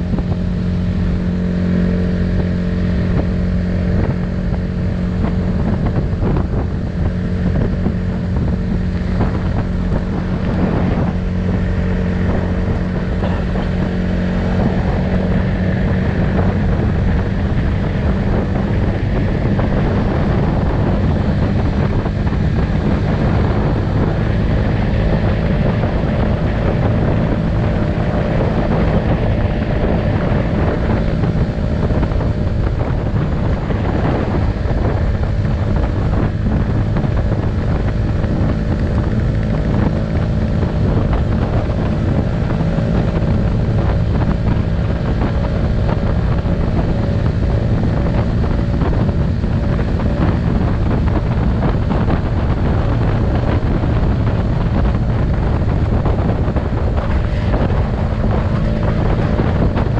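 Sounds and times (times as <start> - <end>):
scooter engine running: 0.0 - 59.9
wind buffeting microphone: 0.0 - 59.9.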